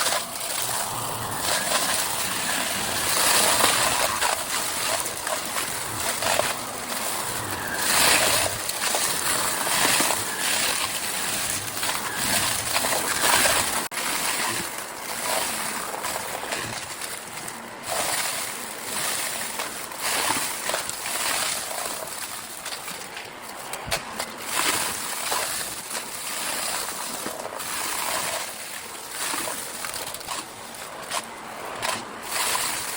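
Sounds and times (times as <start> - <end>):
vacuum cleaner sucking up debris: 0.0 - 32.9.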